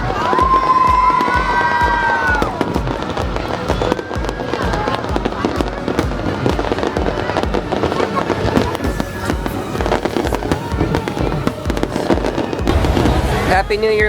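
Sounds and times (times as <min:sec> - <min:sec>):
fireworks popping and crackling: 0:00.0 - 0:14.0
music with thumping beat: 0:00.0 - 0:14.0.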